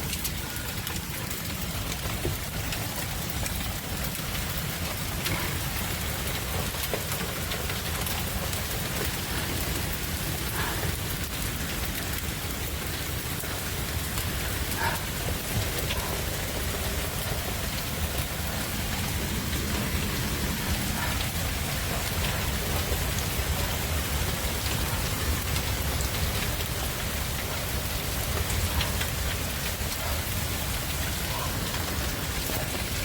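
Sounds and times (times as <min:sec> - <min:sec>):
hail and heavy rain pelting: 0:00.0 - 0:33.0.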